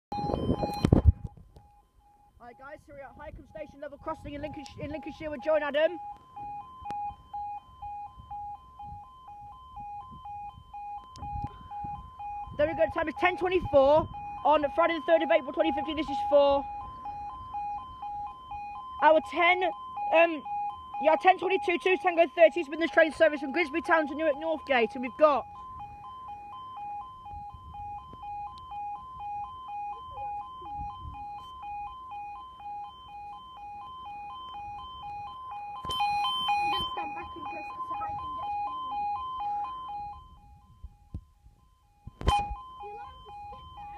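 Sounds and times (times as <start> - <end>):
two-tone level crossing alarm: 0.1 - 43.9.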